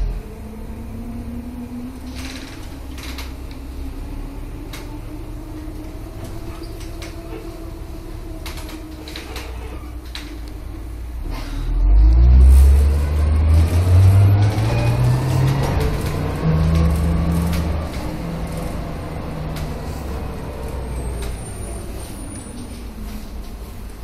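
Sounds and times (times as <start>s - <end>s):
bus engine running: 0.0s - 24.0s
bus body rattles and knocks: 2.0s - 3.8s, 4.6s - 11.6s, 13.0s - 24.0s.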